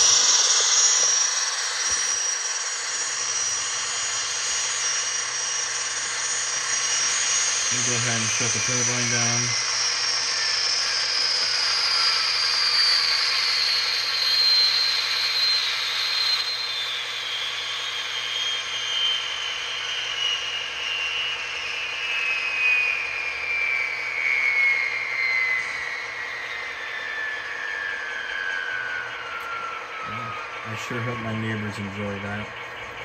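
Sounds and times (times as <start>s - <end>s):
turbine winding down: 0.0s - 33.0s.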